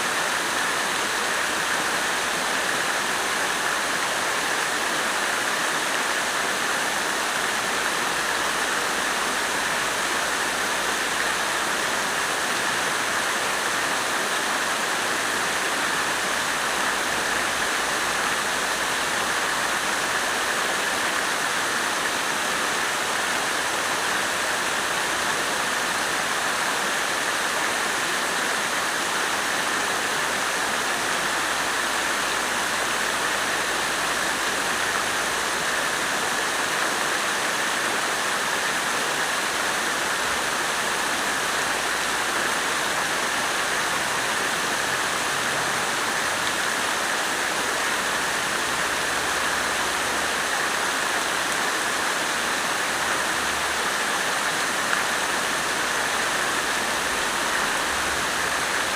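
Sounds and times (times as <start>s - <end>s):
water fountain splashing: 0.0s - 58.9s.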